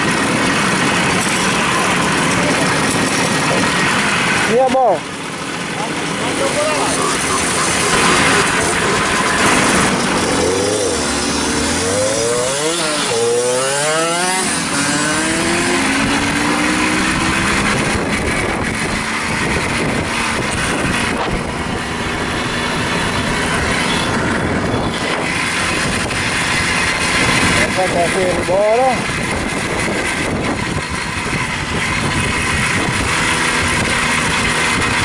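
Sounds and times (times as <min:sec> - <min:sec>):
moped engines pulling away: 0:00.0 - 0:35.0.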